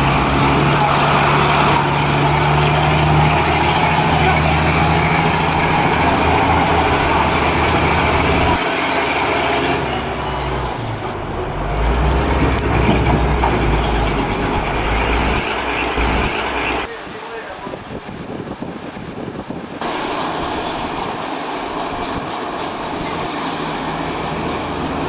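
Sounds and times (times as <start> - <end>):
locomotive diesel engine running: 0.0 - 16.9, 19.8 - 25.0.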